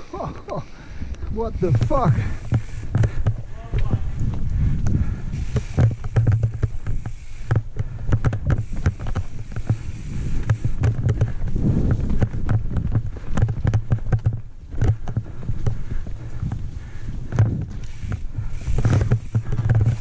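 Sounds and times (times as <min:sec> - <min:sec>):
bike knocks and rattles: 0:00.0 - 0:20.0
bike tyres rolling over dirt: 0:00.0 - 0:20.0.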